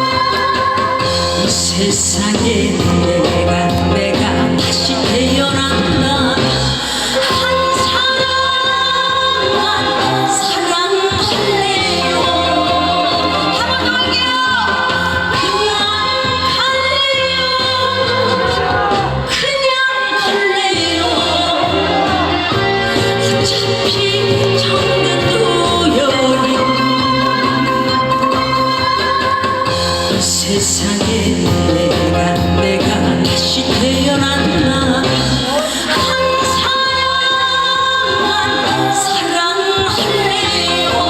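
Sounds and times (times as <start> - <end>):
musical accompaniment: 0.0 - 41.0
woman singing with vibrato: 0.0 - 41.0.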